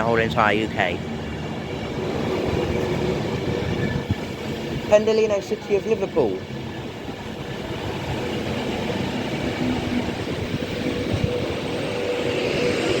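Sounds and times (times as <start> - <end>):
electric train rumbling on track: 0.0 - 13.0.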